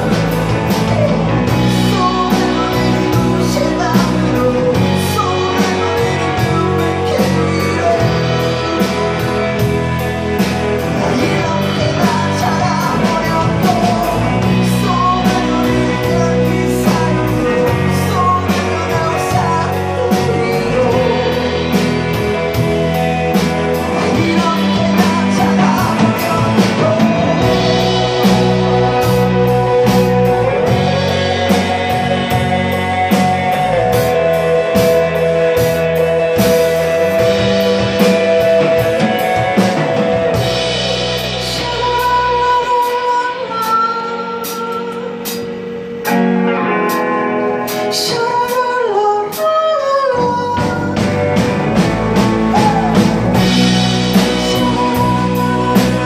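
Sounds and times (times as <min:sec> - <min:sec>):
man singing lead vocal: 0:00.0 - 0:45.6, 0:46.9 - 0:56.0
guitar with sliding notes: 0:00.0 - 0:56.0
live rock band playing: 0:00.0 - 0:56.0.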